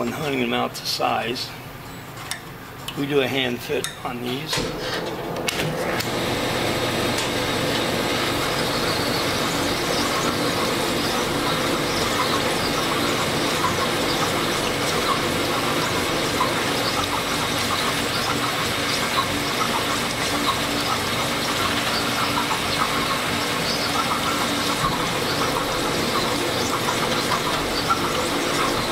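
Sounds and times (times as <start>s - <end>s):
honing machine motor hum: 4.7s - 28.9s.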